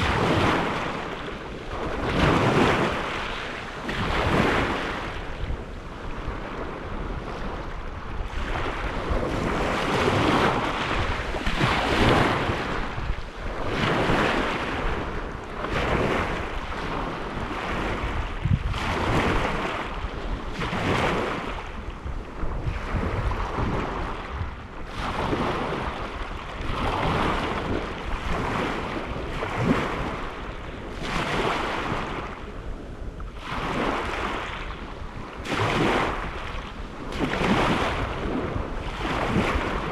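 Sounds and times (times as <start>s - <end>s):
lake waves washing onto shore: 0.0s - 39.9s.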